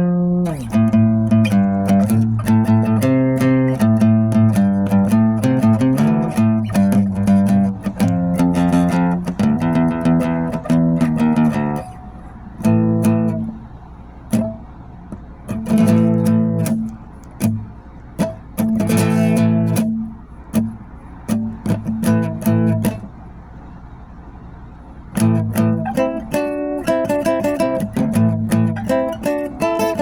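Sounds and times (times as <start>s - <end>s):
guitar strumming chords: 0.0s - 23.2s, 25.1s - 30.0s.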